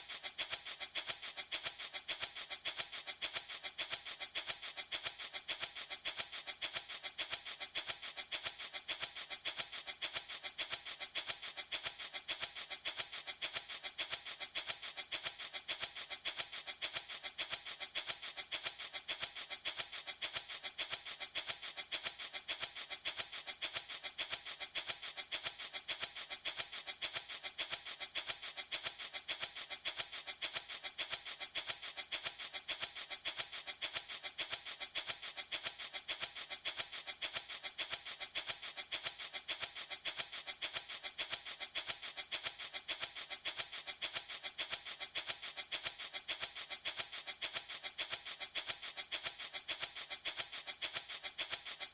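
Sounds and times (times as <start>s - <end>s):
baby rattle shaking: 0.0s - 51.9s.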